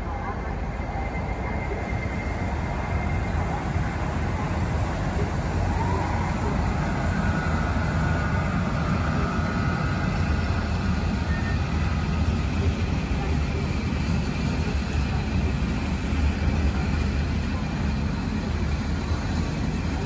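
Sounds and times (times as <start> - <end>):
faint high whine: 0.0 - 20.0
train rumbling past: 0.0 - 20.0.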